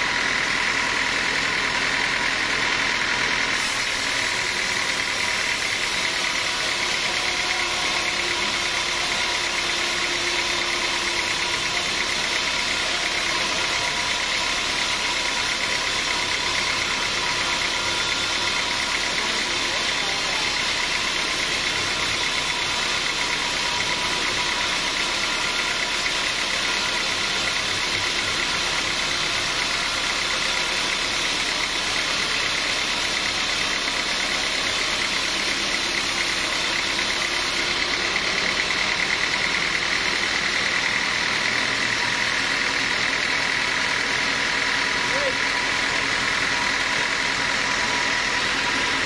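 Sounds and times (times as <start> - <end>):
sawmill machinery drone: 0.0 - 49.0.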